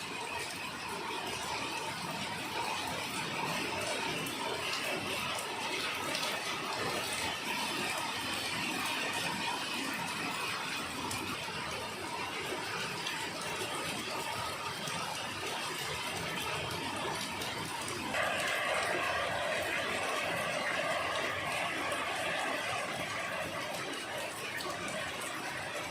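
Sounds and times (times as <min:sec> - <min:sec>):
rain drop ticks: 0:00.0 - 0:25.9
rain falling: 0:00.0 - 0:25.9.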